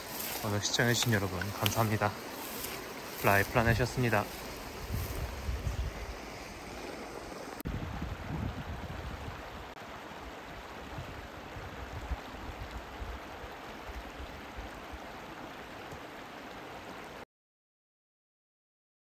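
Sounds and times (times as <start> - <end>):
river rushing over stones: 0.0 - 17.2.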